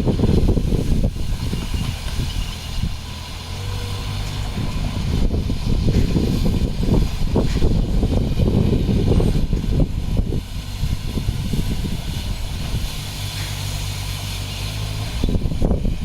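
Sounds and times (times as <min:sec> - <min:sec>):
diesel engine knocking and droning: 0:00.0 - 0:16.0.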